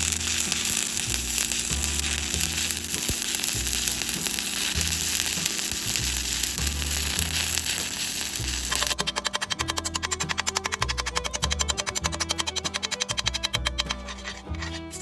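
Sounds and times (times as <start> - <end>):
welding arc crackling sizzle: 0.0 - 15.0.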